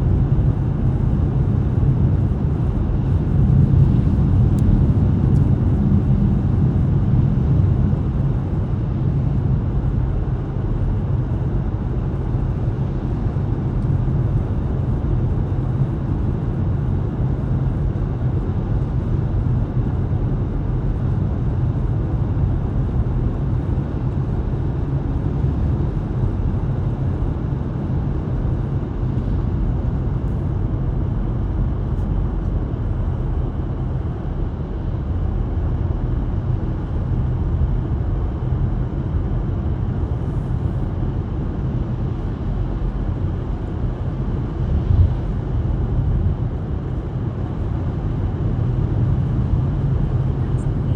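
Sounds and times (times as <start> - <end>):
car engine rumble: 0.0 - 50.9.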